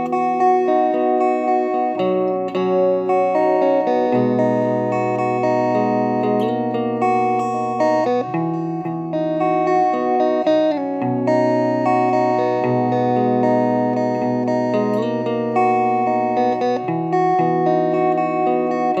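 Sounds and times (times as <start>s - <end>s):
guitar chords ringing: 0.0s - 19.0s.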